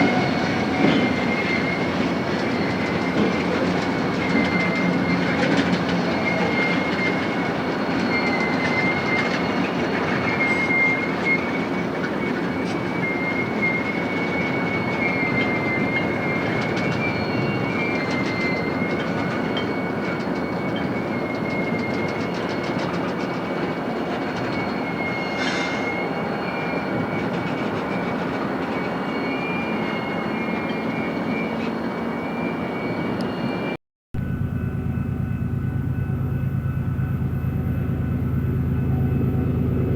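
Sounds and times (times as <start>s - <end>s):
wheel squeal: 0.0s - 33.8s
freight cars rolling: 0.0s - 39.9s.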